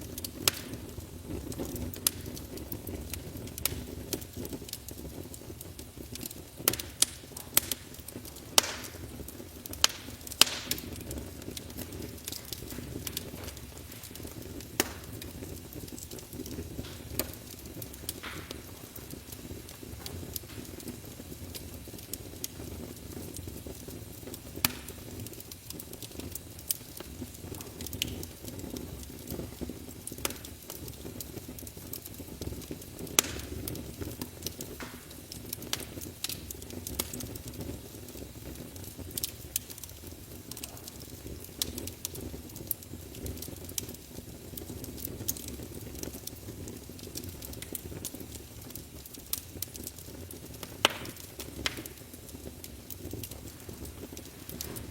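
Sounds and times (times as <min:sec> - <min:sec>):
fire pops and snaps: 0:00.0 - 0:54.9
low rumble of flames: 0:00.0 - 0:54.9.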